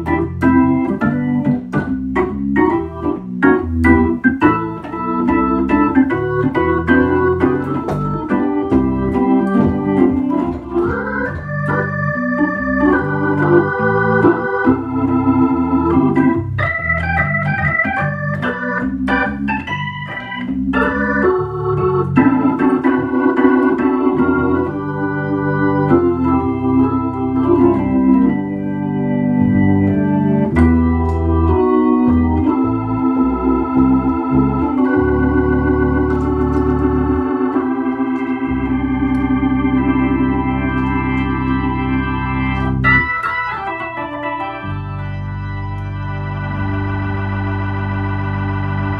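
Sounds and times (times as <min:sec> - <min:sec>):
organ through rotating speaker: 0:00.0 - 0:48.9.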